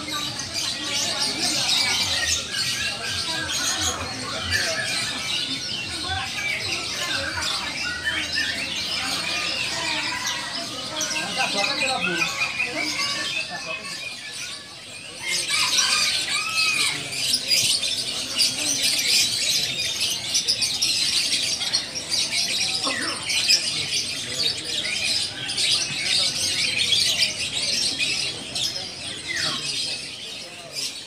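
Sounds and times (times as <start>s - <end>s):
small birds chirping and twittering: 0.0s - 31.0s.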